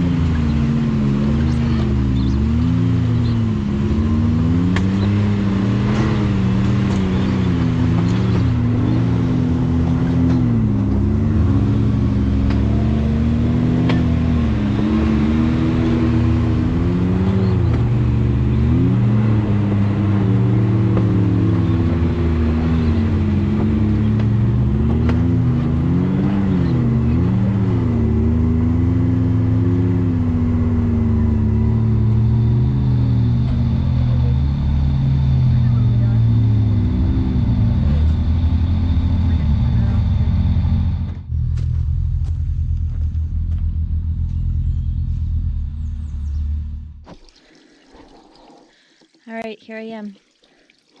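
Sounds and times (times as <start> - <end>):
utv engine revving: 0.0 - 47.2.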